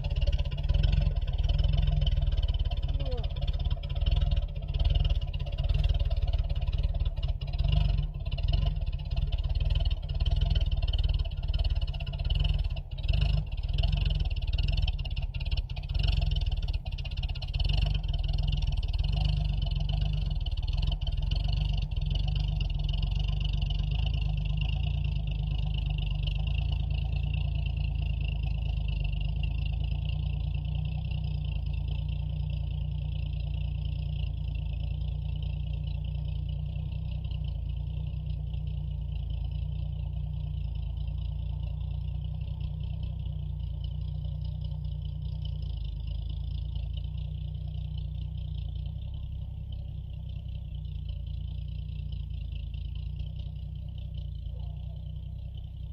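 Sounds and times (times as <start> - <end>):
truck engine running under load: 0.0 - 55.9.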